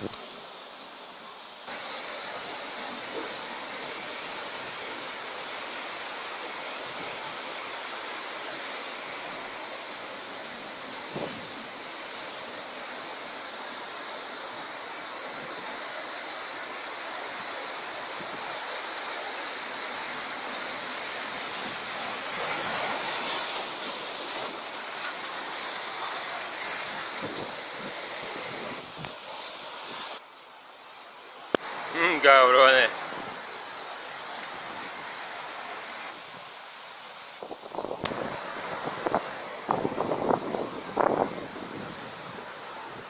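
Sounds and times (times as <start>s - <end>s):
storm surf breaking over rocks: 0.0s - 30.2s, 31.5s - 43.0s.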